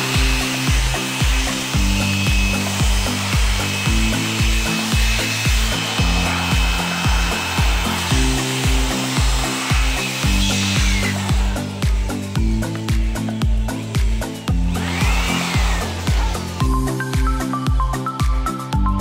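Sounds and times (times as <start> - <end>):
electric air blower whining: 0.0 - 18.6
background music with steady beat: 0.0 - 19.0.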